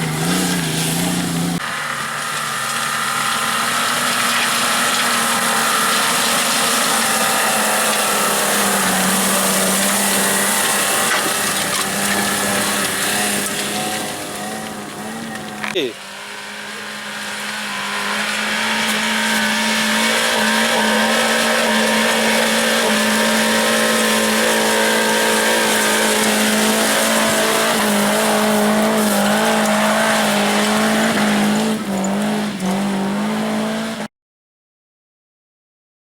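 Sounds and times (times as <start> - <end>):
off-road vehicle engine at high revs: 0.0 - 34.1.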